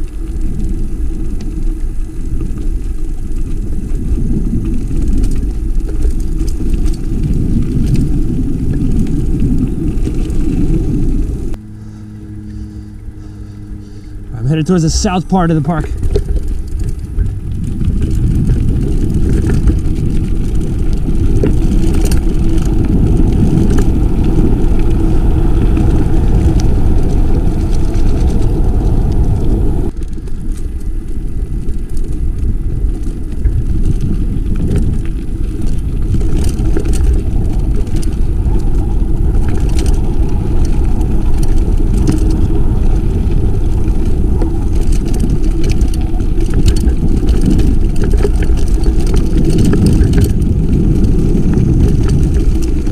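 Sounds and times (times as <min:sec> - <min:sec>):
bike clicks and rattles: 0:00.0 - 0:52.9
tyre noise on dirt: 0:00.0 - 0:52.9
wind buffeting microphone: 0:00.0 - 0:52.9.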